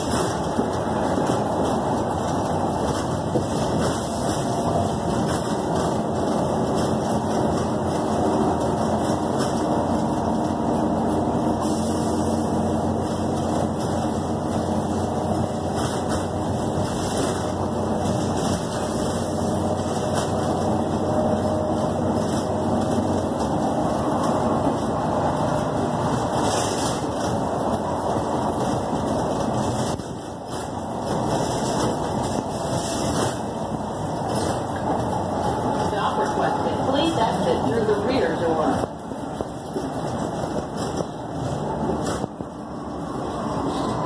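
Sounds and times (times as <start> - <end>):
bus engine hum: 0.0 - 44.0
road noise: 0.0 - 44.0.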